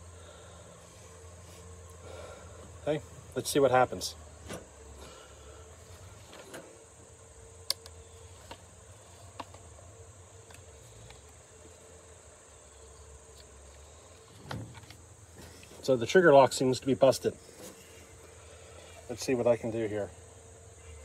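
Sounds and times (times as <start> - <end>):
faint insect chirring: 0.0 - 21.0.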